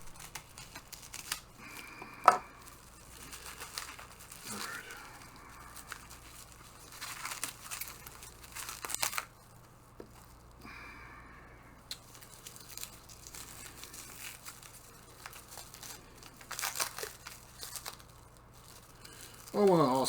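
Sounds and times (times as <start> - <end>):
packing material crinkling and tearing: 0.0 - 11.0, 11.8 - 20.0.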